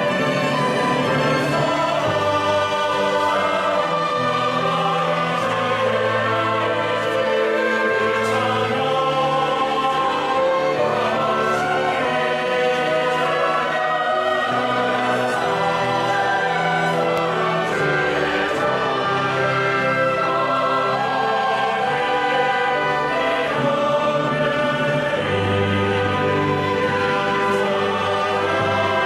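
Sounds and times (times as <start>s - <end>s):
church choir singing: 0.0s - 29.0s
orchestral accompaniment: 0.0s - 29.0s.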